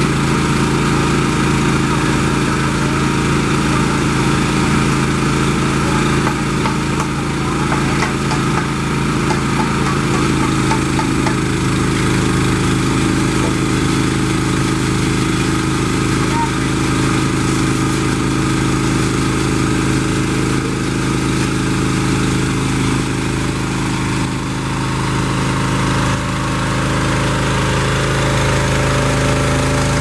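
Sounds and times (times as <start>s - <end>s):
hydraulic power pack engine running: 0.0s - 30.0s.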